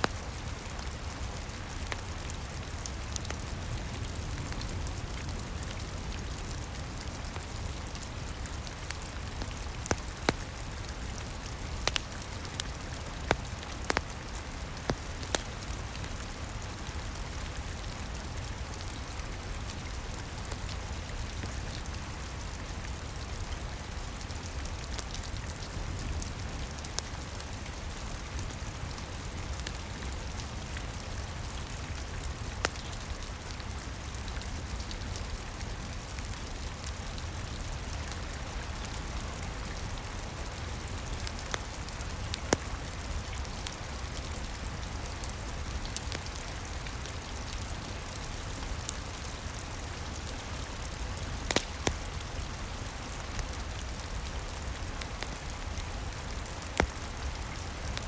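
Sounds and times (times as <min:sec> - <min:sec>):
rain on a roof: 0:00.0 - 0:58.0
wood fire crackling: 0:00.0 - 0:58.0.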